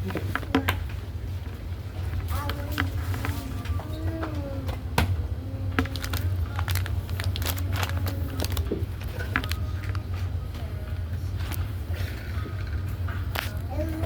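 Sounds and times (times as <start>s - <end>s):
low steady hum: 0.0s - 14.0s
faint distant voices: 2.3s - 14.0s.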